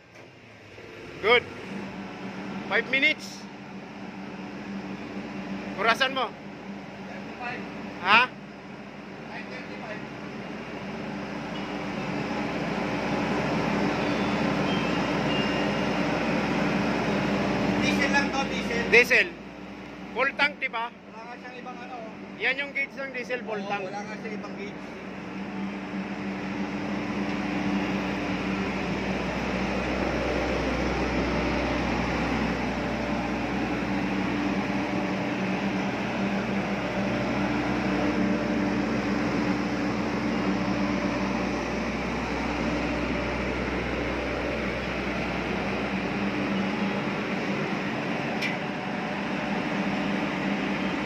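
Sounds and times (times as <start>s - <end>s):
diesel generator humming: 0.0s - 51.0s.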